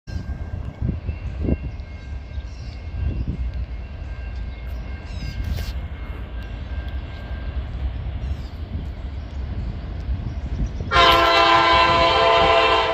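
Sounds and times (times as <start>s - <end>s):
diesel freight train rumbling: 0.1s - 12.9s.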